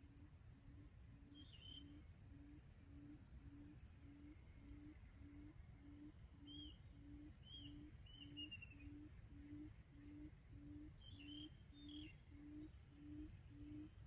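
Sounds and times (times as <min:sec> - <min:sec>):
low hooting quail call: 0:00.0 - 0:14.0.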